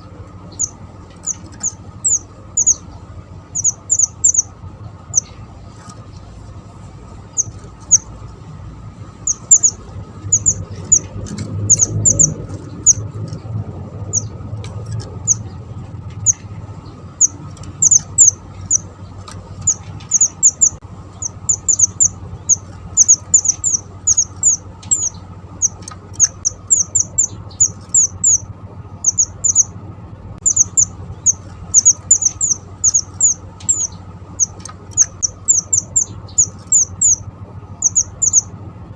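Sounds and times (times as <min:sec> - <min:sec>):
bird chipping calls: 0:00.0 - 0:06.4, 0:07.1 - 0:29.8, 0:30.4 - 0:38.6
low hum: 0:00.0 - 0:38.9.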